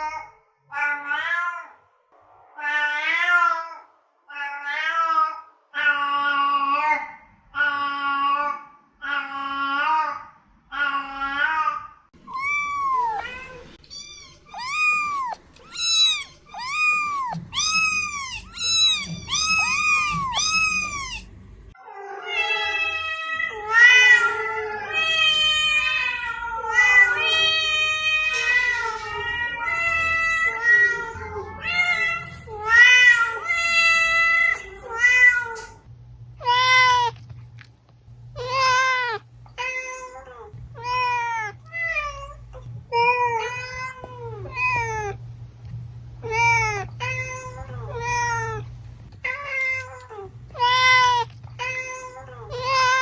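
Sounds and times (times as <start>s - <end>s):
cats meowing: 0.0s - 1.8s, 2.5s - 10.1s, 10.7s - 37.3s, 38.4s - 45.2s, 46.2s - 53.0s.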